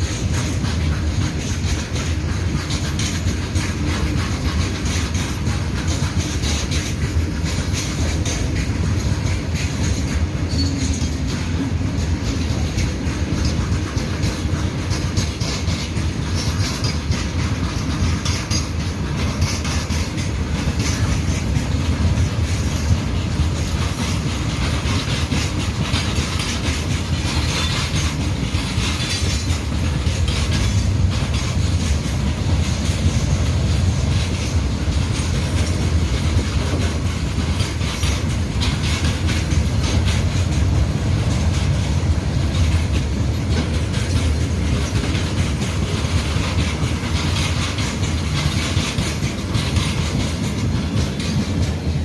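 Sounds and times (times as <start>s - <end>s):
low train rumble: 0.0s - 52.0s
wagon wheels clicking over rail joints: 0.0s - 52.0s.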